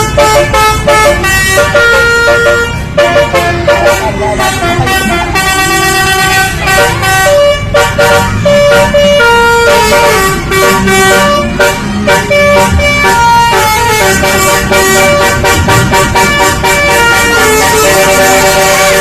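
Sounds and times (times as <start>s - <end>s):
low vehicle rumble: 0.0s - 19.0s
multi-tone air horn playing a tune: 0.0s - 19.0s.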